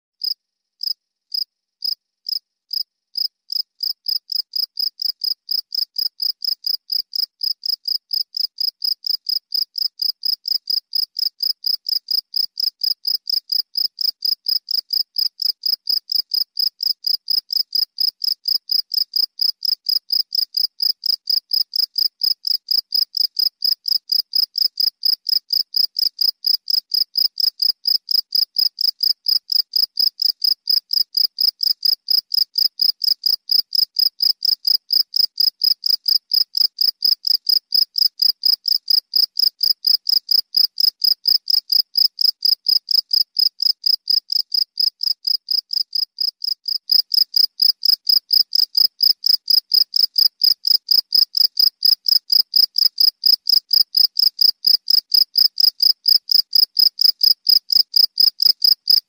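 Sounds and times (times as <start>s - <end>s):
cricket chirping: 0.2s - 59.0s.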